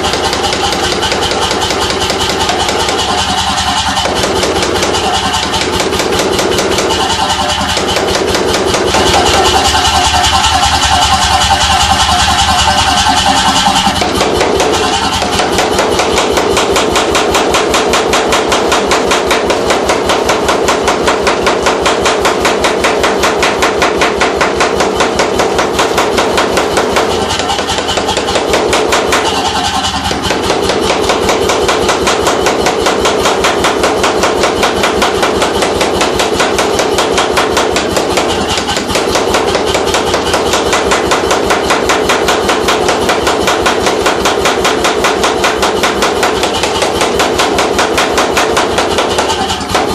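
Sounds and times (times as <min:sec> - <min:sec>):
pneumatic forging hammer striking: 0:00.0 - 0:49.9.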